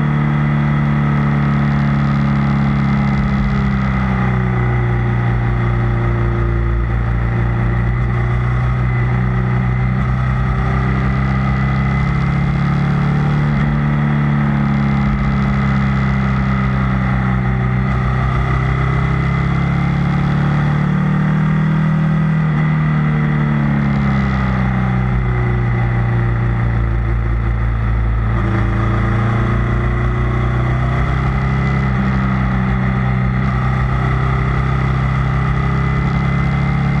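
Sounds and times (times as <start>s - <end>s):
motorcycle engine and exhaust: 0.0s - 37.0s.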